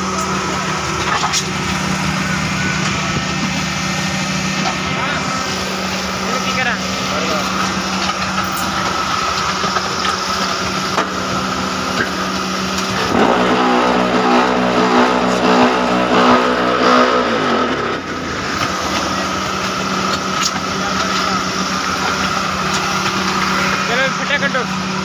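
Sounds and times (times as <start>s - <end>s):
hydraulic power pack humming: 0.0s - 25.0s.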